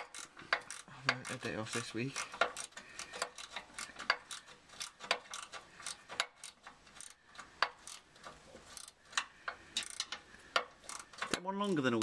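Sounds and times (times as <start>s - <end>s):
ratchet spanner clicking: 0.0s - 11.8s.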